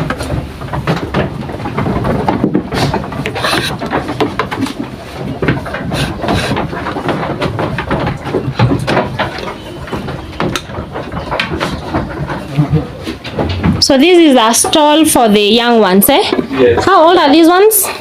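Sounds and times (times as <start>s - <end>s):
wooden knocks and scrapes: 0.0s - 17.3s.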